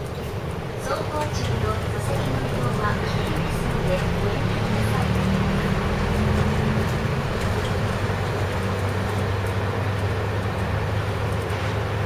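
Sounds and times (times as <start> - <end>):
bus engine drone: 0.0 - 12.0
tyre and road noise: 0.0 - 12.0.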